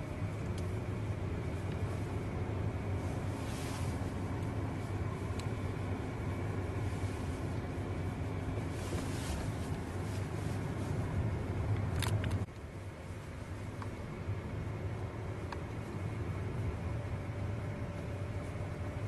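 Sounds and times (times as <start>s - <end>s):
car engine hum: 0.0s - 19.0s
tyre and road noise: 0.0s - 19.0s.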